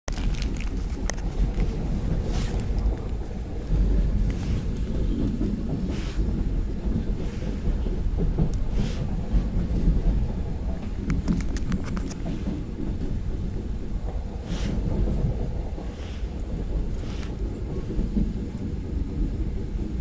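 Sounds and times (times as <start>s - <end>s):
train carriage rumble: 0.1s - 20.0s.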